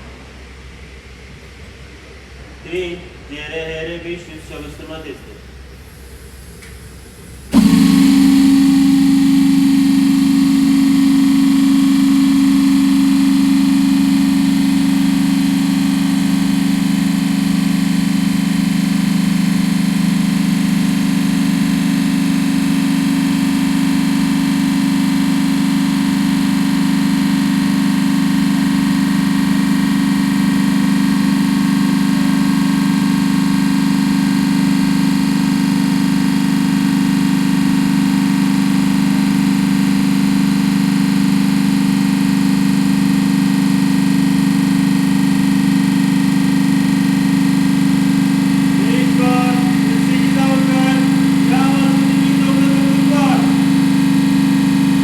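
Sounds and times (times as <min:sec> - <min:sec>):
compressor humming: 0:00.0 - 0:55.0.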